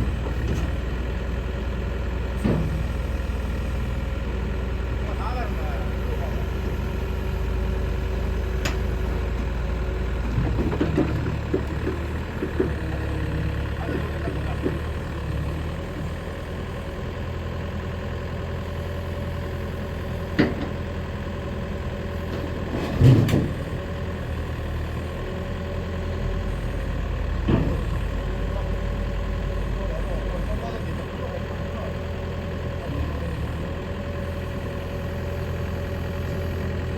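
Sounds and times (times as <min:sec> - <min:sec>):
excavator diesel engine idling: 0:00.0 - 0:36.9.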